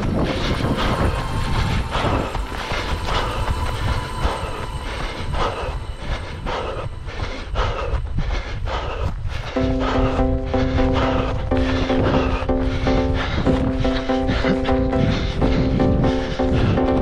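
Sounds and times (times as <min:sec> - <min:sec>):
running footsteps: 0:00.0 - 0:17.0
wind rumble on microphone: 0:00.0 - 0:17.0.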